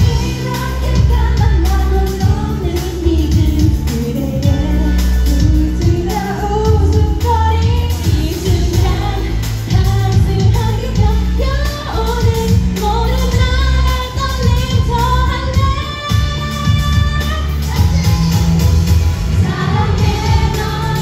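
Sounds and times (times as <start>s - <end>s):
pop song over loudspeakers: 0.0s - 21.0s.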